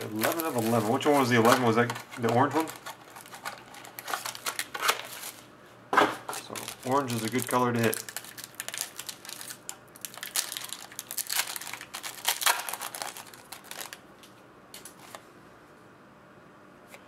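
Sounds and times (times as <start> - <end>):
foil wrappers crinkling: 0.0 - 5.5, 6.3 - 15.2.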